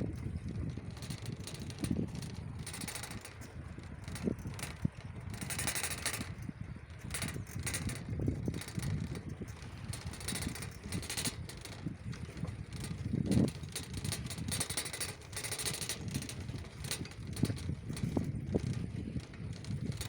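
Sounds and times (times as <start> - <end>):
bicycle rattling and clicking: 0.0 - 20.0
wind buffeting microphone: 0.0 - 20.0.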